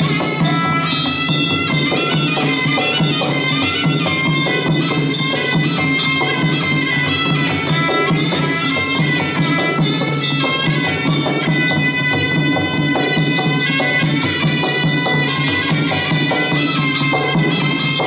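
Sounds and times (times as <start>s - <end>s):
drums and small cymbals: 0.0s - 18.0s.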